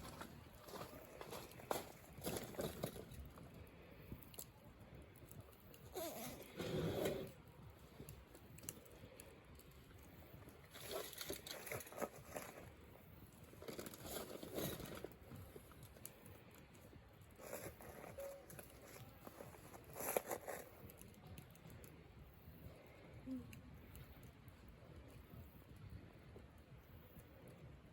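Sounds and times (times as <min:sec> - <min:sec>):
firewood crackling and popping: 0:00.0 - 0:27.9.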